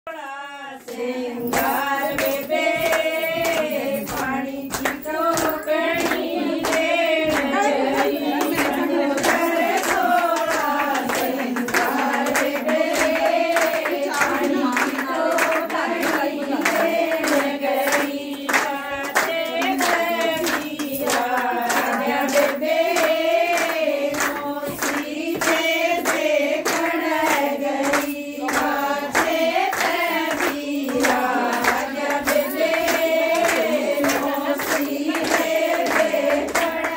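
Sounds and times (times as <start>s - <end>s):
rhythmic hand clapping: 0.1s - 36.9s
women singing folk song: 0.1s - 36.9s.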